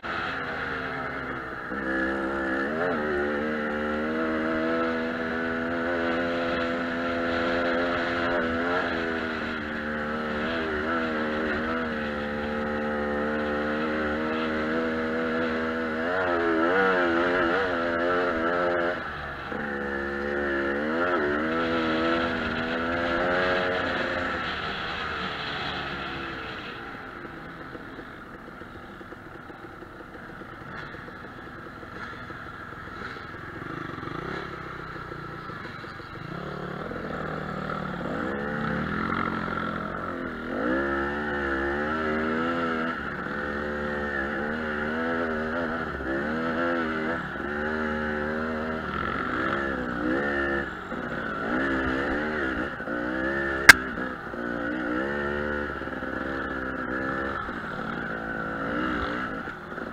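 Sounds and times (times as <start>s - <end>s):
dirt bike engine revving: 0.0s - 27.4s, 30.2s - 59.9s.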